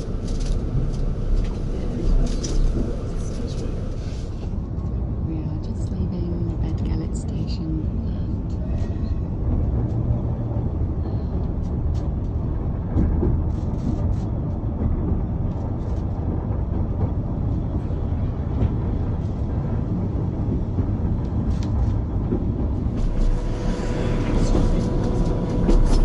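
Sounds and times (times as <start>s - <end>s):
train carriage rumbling on track: 0.0s - 26.0s.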